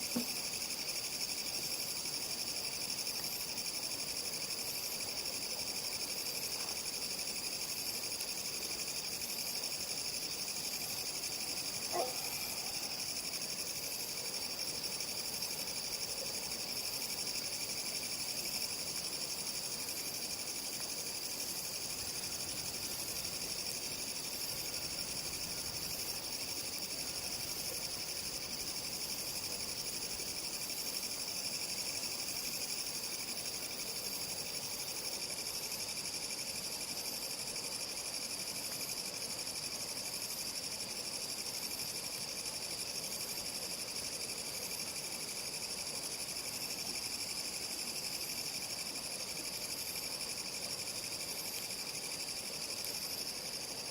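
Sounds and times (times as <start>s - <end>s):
crickets and insects trilling: 0.0s - 53.9s.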